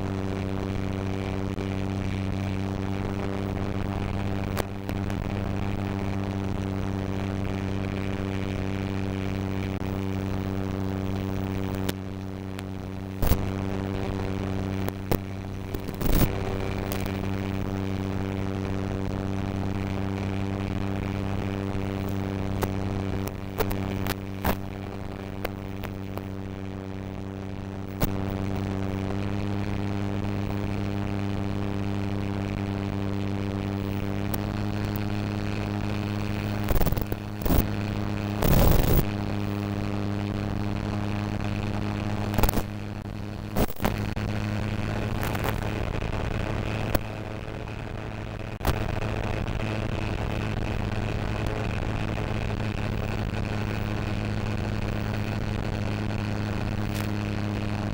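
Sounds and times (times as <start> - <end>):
crackling bursts of noise: 0.0 - 57.9.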